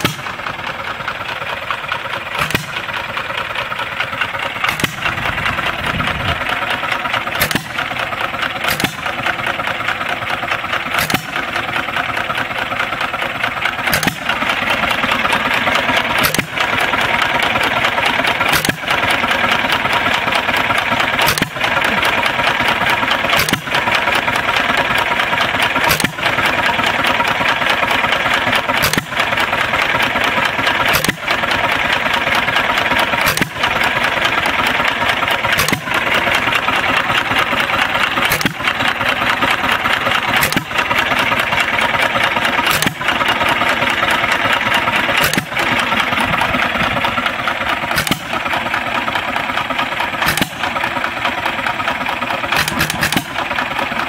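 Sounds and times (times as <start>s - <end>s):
hit-and-miss engine firing: 0.0s - 54.0s.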